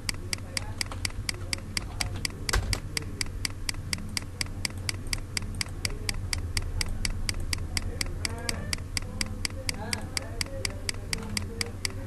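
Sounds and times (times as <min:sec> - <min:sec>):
low steady hum: 0:00.0 - 0:12.0
rapid even ticking: 0:00.0 - 0:12.0
sharp click: 0:00.0 - 0:12.0.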